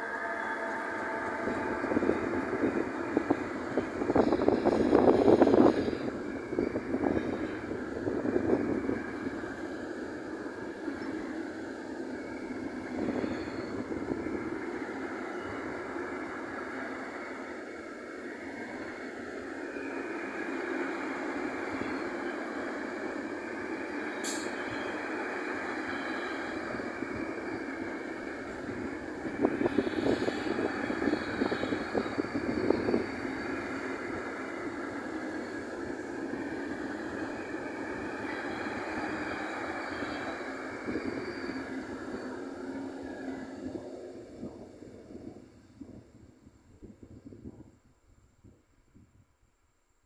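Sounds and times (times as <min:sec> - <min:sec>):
train wheels on rails: 0:00.0 - 0:47.7.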